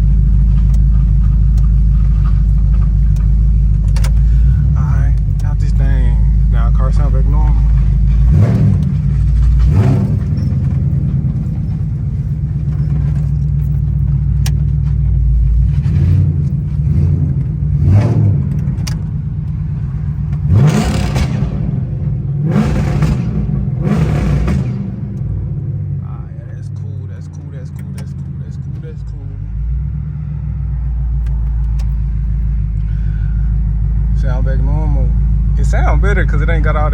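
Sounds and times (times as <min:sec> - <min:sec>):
car engine running: 0:00.0 - 0:36.9.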